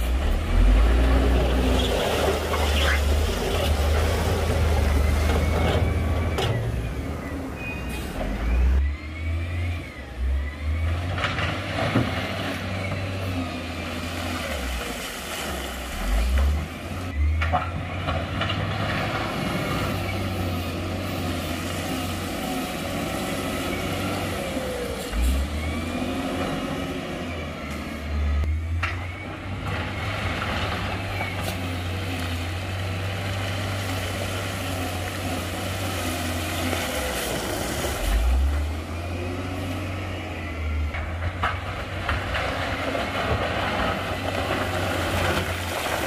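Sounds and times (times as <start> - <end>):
diesel engine rumble: 0.0 - 46.0.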